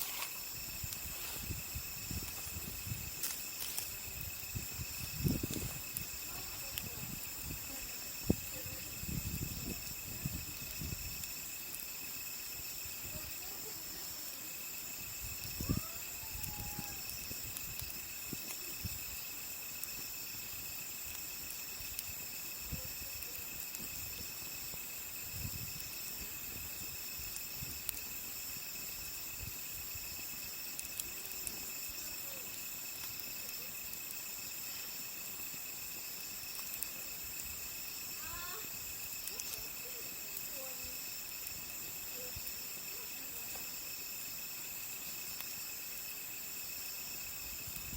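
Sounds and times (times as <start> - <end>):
campfire popping and crackling: 0.0 - 47.9
night insects trilling: 0.0 - 47.9.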